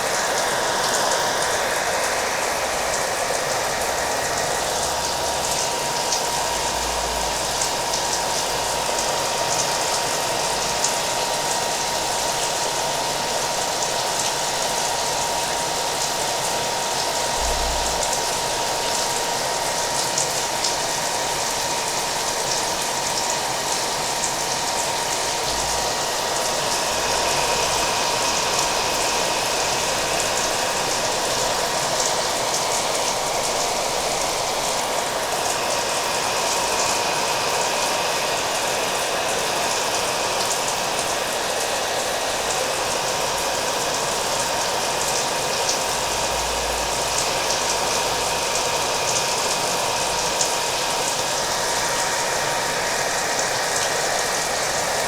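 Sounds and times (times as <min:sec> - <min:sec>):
hair dryer running: 0:00.0 - 0:55.0
steady rain: 0:00.0 - 0:55.0.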